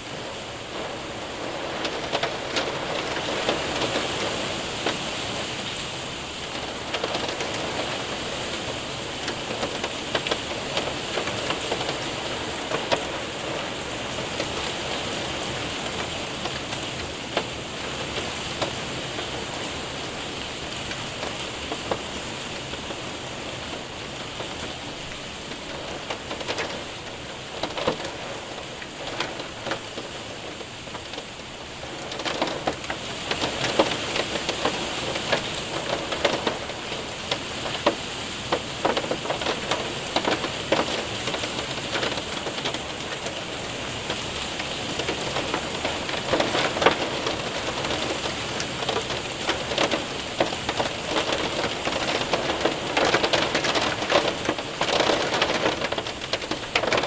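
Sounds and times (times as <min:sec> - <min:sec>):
hailstones ticking: 0:00.0 - 0:57.0
rain hiss: 0:00.0 - 0:57.0.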